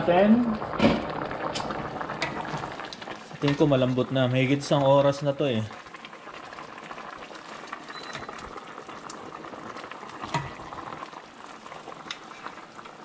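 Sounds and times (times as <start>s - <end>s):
pot of water bubbling: 0.0s - 13.0s.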